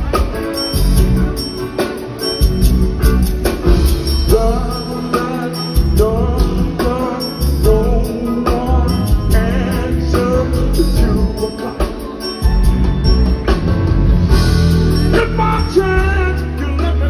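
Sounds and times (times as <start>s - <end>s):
live band playing: 0.0s - 17.0s
sliding lead melody: 0.0s - 17.0s.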